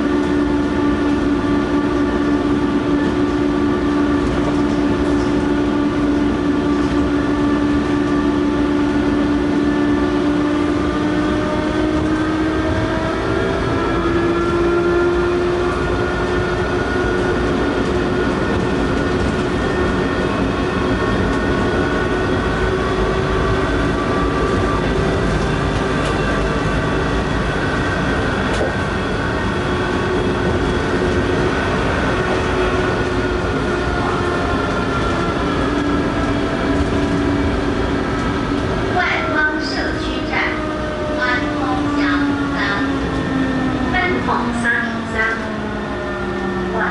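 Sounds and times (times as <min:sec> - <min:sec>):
train rolling noise: 0:00.0 - 0:46.9
train traction whine: 0:00.0 - 0:46.9.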